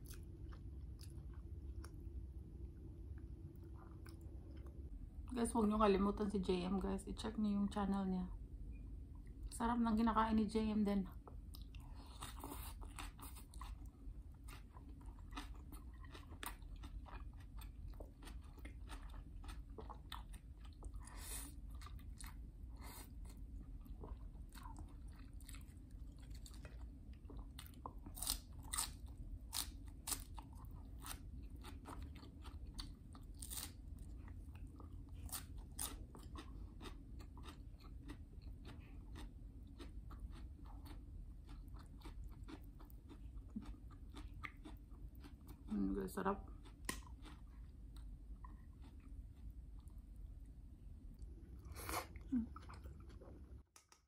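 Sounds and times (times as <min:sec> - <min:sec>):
person chewing food: 0:00.0 - 0:05.3, 0:11.2 - 0:45.7, 0:46.4 - 0:50.5, 0:51.1 - 0:54.0.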